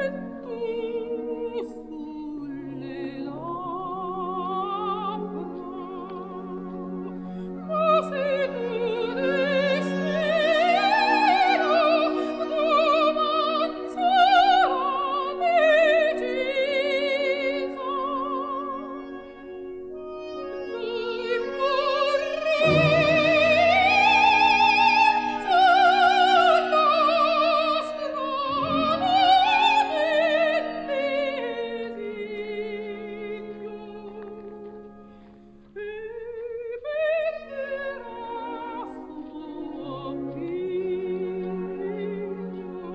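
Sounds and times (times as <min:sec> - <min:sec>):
operatic singing with vibrato: 0:00.0 - 0:34.7, 0:35.8 - 0:42.9
orchestral accompaniment: 0:00.0 - 0:36.2, 0:36.9 - 0:42.9.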